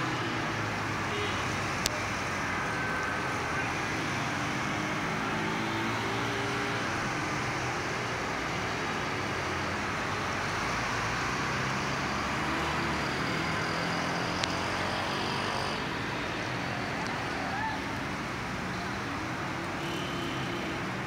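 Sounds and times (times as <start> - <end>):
tyres on wet road: 0.0 - 21.0
vehicle engines running: 0.0 - 21.0.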